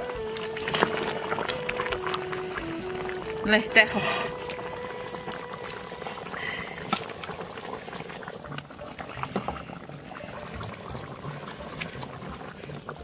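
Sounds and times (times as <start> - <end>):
pot bubbling with small pops: 0.0 - 13.0.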